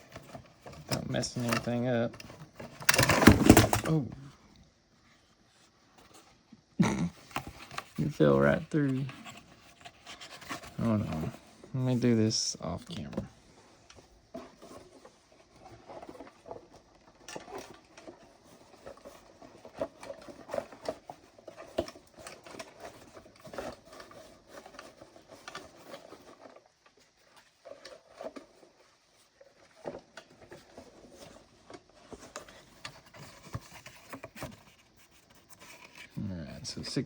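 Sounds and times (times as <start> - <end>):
cardboard box rustling and scraping: 0.0 - 4.1, 7.3 - 37.0.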